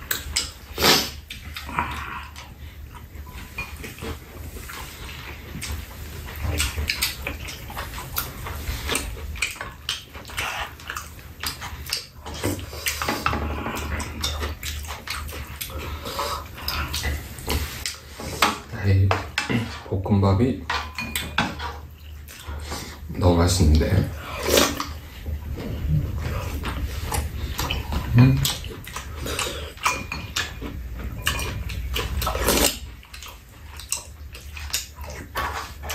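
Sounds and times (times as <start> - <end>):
mouths chewing and smacking: 0.0 - 35.9.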